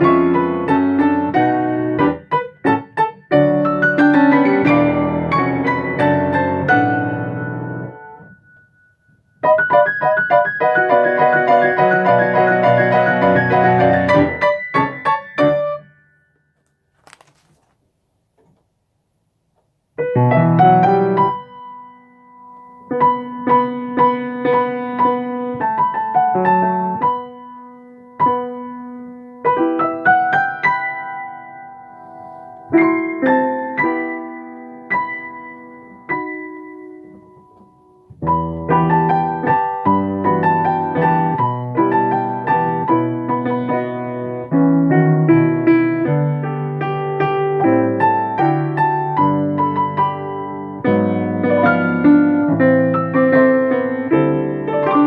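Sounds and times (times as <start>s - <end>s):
piano playing: 0.0s - 16.5s, 20.0s - 55.0s.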